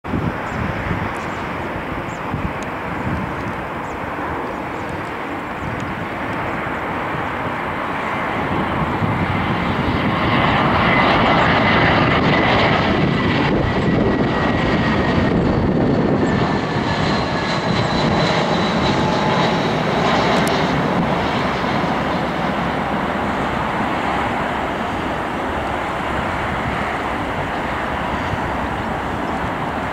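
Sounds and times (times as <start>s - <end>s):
jet engines of landing airliner: 0.0s - 29.9s.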